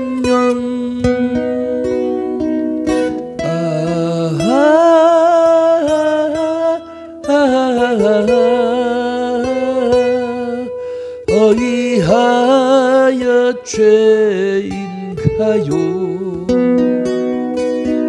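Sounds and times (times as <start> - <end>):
man singing a slow ballad: 0.0 - 1.8, 3.4 - 16.7
fingerpicked acoustic guitar: 0.0 - 18.0.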